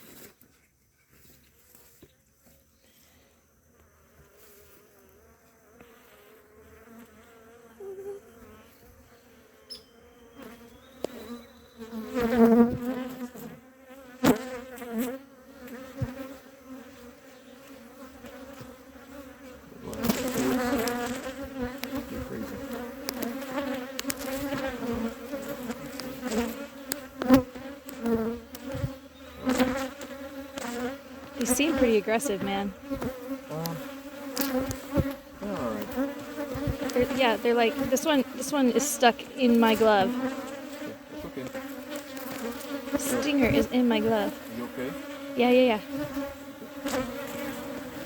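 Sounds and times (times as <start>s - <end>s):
honey bees buzzing: 3.0s - 48.0s.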